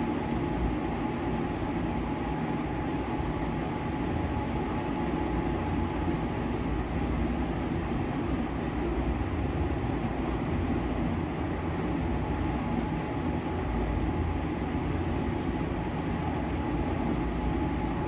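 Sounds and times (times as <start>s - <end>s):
machine rumble and hiss: 0.0s - 18.0s.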